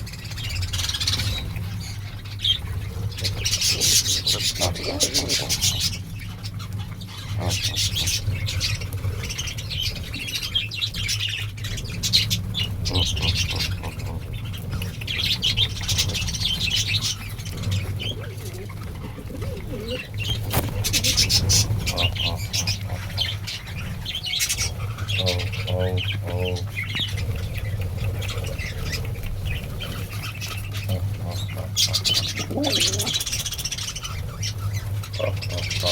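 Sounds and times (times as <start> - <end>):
small birds chirping: 0.0 - 35.9
steady low hum: 0.0 - 35.9.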